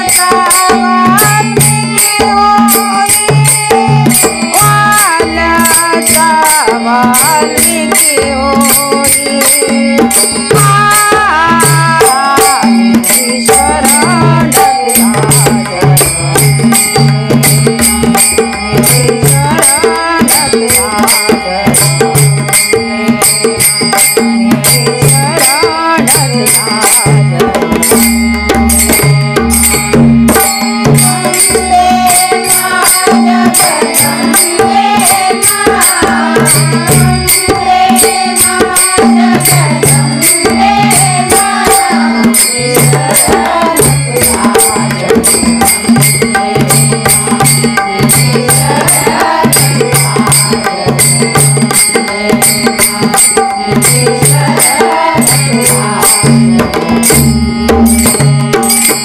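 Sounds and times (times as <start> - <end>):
hand drum: 0.0 - 59.0
jingling hand percussion: 0.0 - 59.0
women singing devotional song: 0.0 - 59.0.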